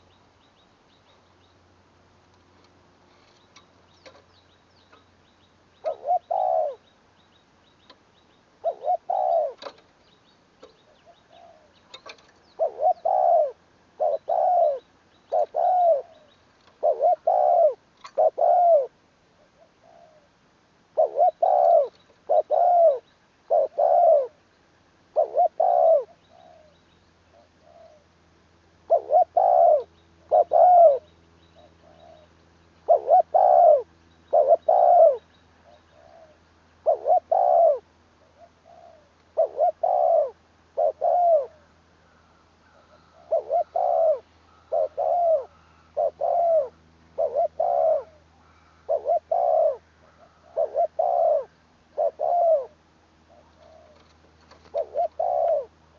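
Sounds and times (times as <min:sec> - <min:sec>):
dove cooing: 0:05.8 - 0:06.9, 0:08.6 - 0:09.8, 0:10.6 - 0:24.4, 0:25.1 - 0:28.1, 0:28.8 - 0:55.9.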